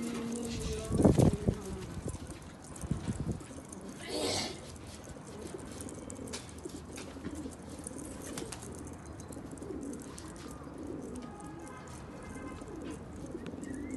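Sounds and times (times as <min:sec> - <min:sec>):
pigeons cooing: 0:00.0 - 0:13.9.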